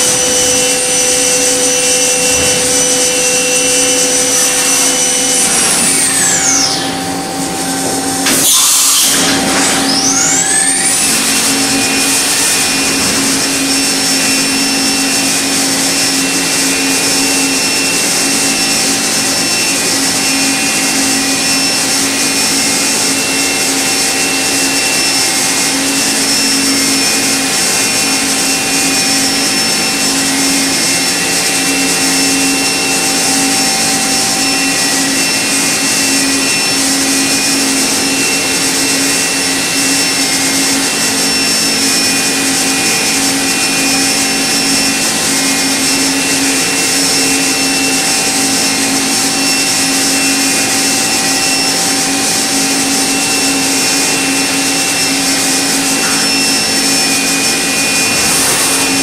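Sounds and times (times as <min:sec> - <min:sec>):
milling machine whine: 0:00.0 - 0:59.0.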